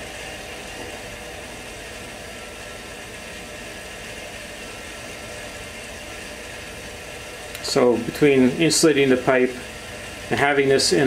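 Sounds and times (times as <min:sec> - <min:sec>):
water pump humming: 0:00.0 - 0:11.0.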